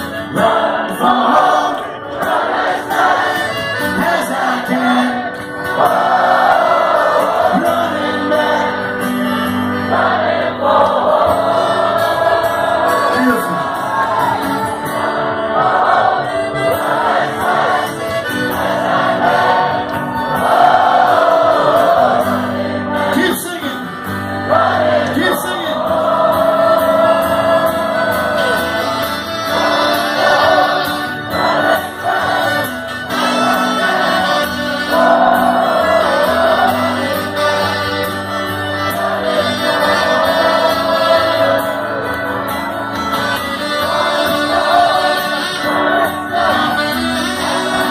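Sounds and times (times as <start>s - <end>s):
folk band playing: 0.0s - 47.9s.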